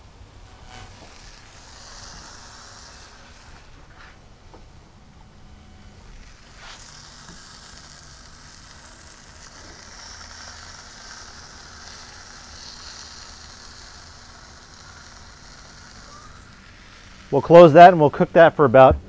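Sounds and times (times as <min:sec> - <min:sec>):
sweet potatoes sizzling on grill: 0:00.0 - 0:18.9.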